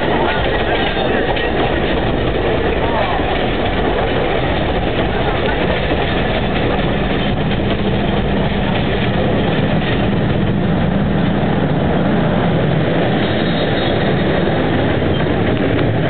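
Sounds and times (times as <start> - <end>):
diesel locomotive engine drone: 0.0 - 16.0
train wheels rumbling: 0.0 - 16.0.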